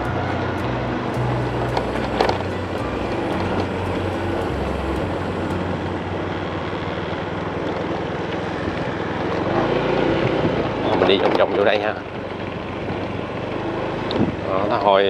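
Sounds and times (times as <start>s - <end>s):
vehicle road and wind rumble: 0.0s - 15.0s.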